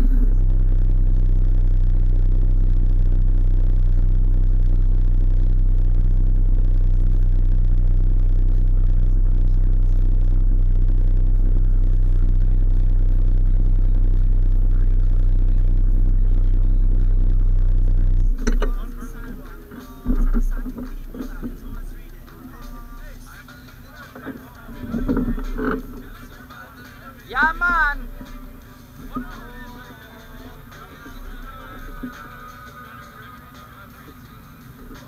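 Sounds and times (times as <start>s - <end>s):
atv engine idling: 0.0s - 35.0s.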